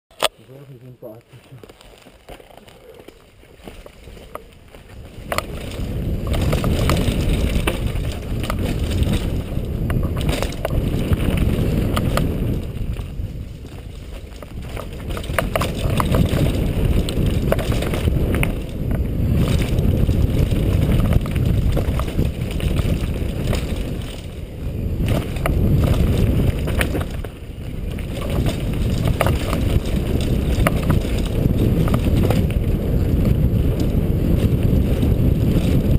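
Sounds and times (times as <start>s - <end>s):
bike rumbling and clattering: 0.1s - 35.9s
wind rushing over microphone: 2.6s - 35.9s.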